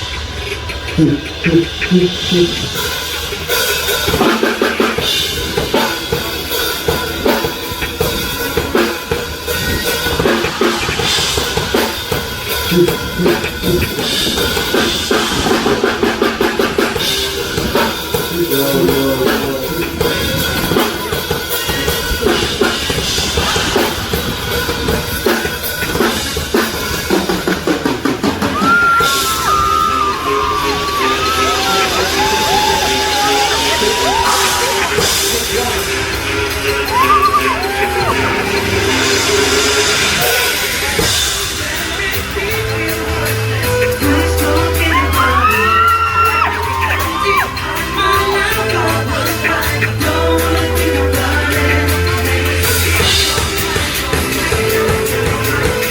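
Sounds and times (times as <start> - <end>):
live band through loudspeakers: 0.0 - 55.9
drum kit kick and snare beat: 1.0 - 55.9.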